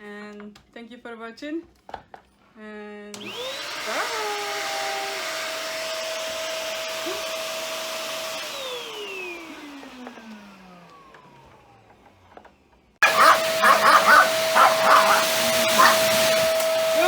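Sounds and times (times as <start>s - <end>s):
vacuum cleaner motor whine: 3.2s - 17.0s.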